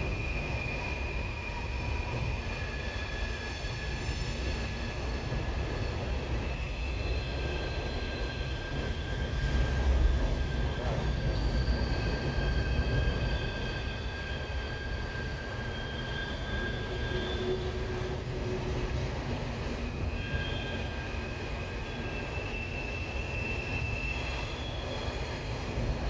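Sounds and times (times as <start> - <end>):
train rumble: 0.0 - 26.0
train wheels squealing: 0.0 - 26.0.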